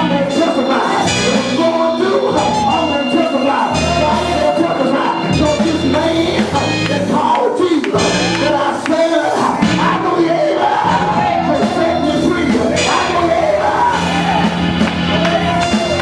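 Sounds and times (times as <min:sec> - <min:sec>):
gospel band with singing: 0:00.0 - 0:16.0.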